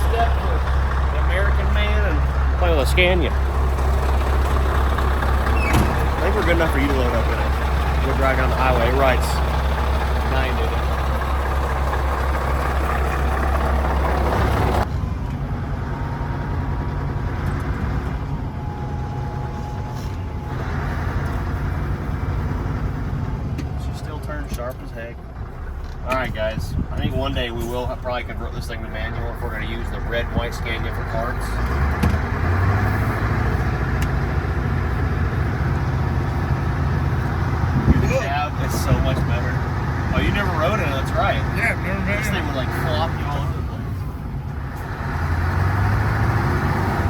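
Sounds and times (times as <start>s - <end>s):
truck engine and road noise: 0.0s - 47.0s.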